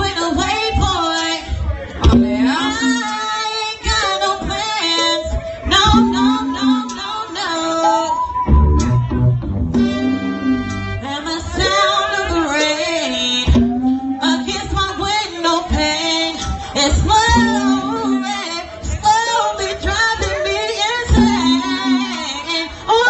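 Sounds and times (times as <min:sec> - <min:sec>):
woman singing: 0:00.0 - 0:08.6, 0:11.0 - 0:23.0
instrumental backing: 0:01.9 - 0:22.7.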